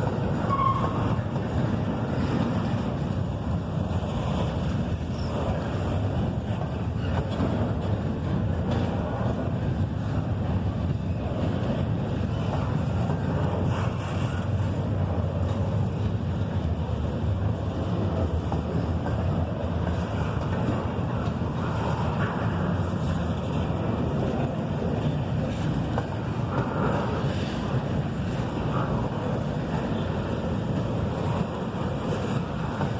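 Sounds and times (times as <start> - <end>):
freight train rolling past: 0.0 - 32.9.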